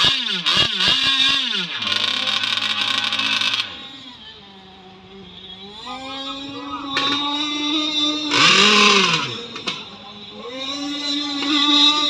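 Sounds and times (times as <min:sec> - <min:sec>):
model boat engines whining: 0:00.0 - 0:12.0.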